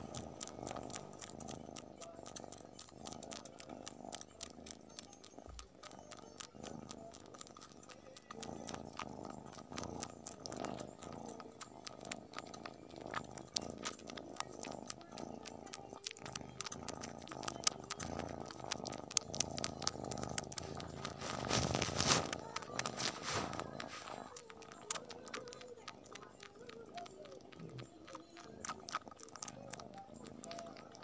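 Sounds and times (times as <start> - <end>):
kitten purring: 0.0 - 31.0
tongue clicks licking cloth: 0.0 - 31.0.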